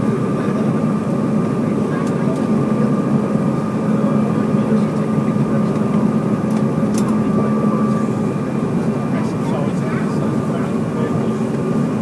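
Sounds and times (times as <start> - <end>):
airliner engine drone: 0.0 - 12.0.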